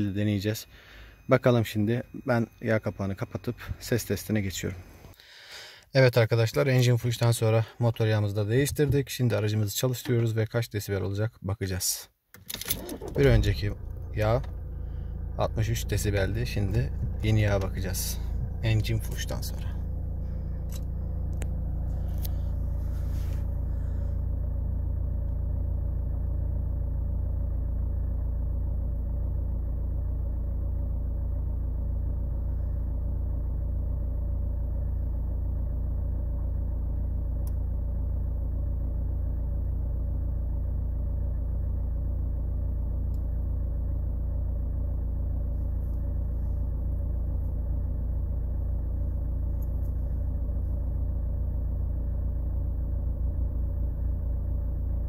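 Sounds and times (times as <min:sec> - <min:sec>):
car engine idling: 0:00.0 - 0:05.8, 0:12.6 - 0:55.0.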